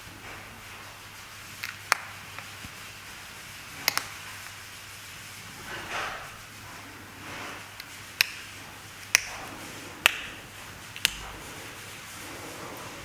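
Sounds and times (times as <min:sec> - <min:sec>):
soft rubbing and rustling: 0:00.0 - 0:13.0.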